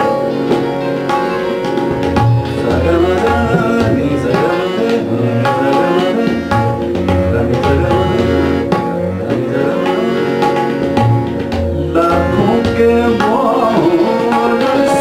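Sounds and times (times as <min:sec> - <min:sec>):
harmonium melody: 0:00.0 - 0:15.0
tabla drumming: 0:00.0 - 0:15.0.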